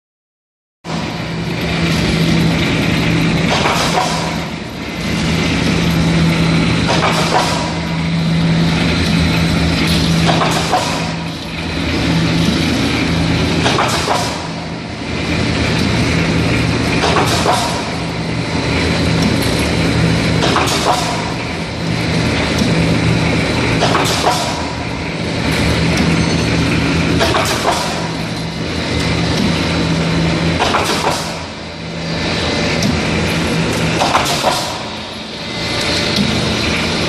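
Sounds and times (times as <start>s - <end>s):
roll forming machine motor hum: 0.9s - 37.0s.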